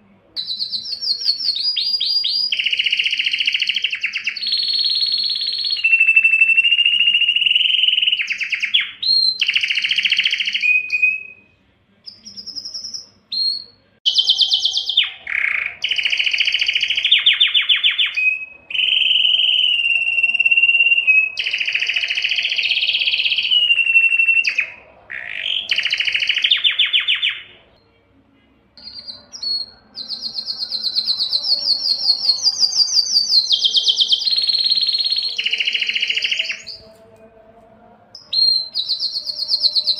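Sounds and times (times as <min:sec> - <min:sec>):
canary singing whistles and trills: 0:00.4 - 0:28.0, 0:28.8 - 0:37.2, 0:38.2 - 0:39.9.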